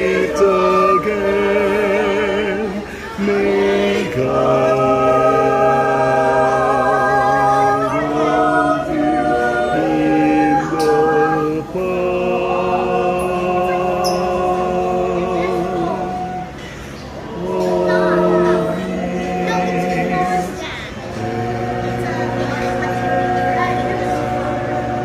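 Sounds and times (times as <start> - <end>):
choir singing a cappella: 0.0 - 25.0.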